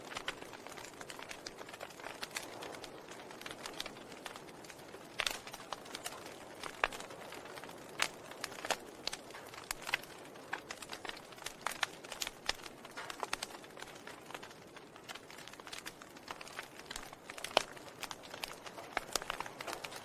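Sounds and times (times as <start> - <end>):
logs crackling and popping: 0.0 - 20.0
soft steady fire hiss: 0.0 - 20.0.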